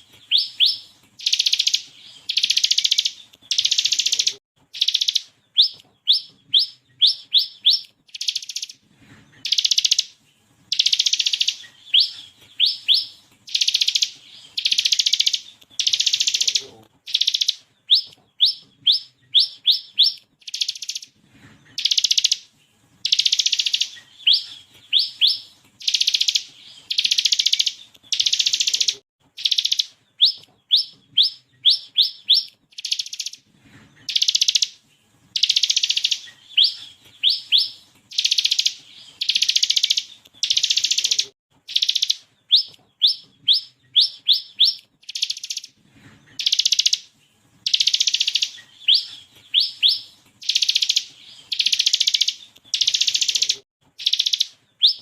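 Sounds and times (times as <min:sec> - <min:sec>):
bird singing buzzy trills: 0:00.0 - 0:55.0.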